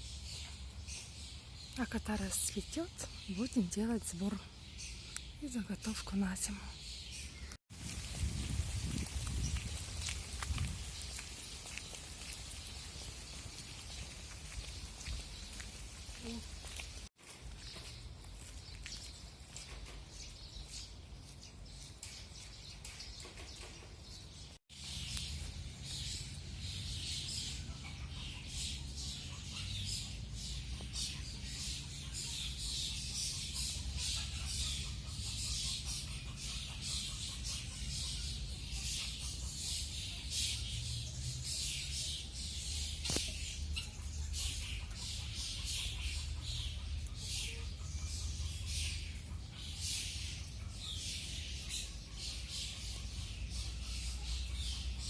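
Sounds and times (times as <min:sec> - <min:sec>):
birds chirping: 0:00.0 - 0:07.6, 0:08.4 - 0:55.0.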